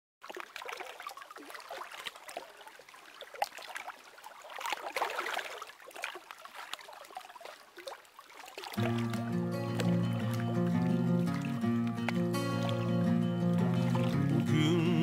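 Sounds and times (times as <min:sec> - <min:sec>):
water splashing: 0:00.2 - 0:15.0.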